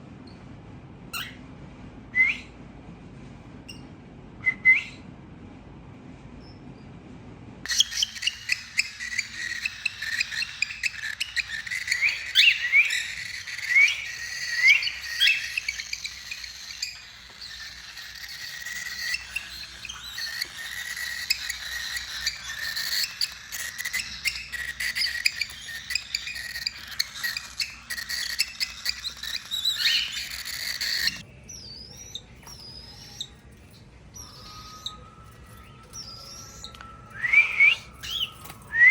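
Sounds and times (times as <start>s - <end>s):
cockatiels chirping: 7.7s - 38.9s.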